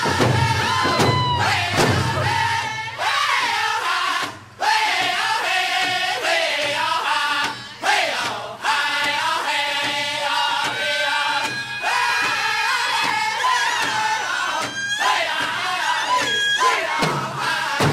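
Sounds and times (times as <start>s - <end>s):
voices singing together: 0.0s - 17.9s.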